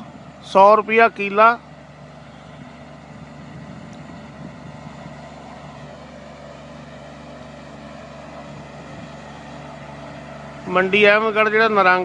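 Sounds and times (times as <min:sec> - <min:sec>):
sprayer engine running: 0:00.0 - 0:12.0.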